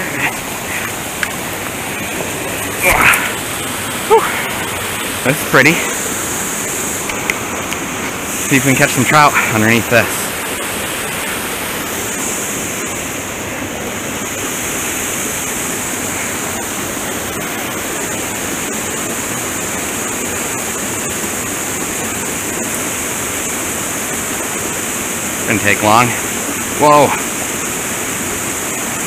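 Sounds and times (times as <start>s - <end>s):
water rushing into a pool: 0.0s - 29.0s.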